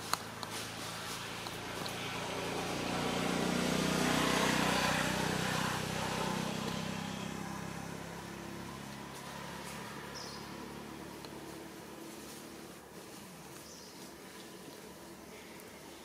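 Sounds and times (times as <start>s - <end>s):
vehicle passing by: 0.0s - 13.2s.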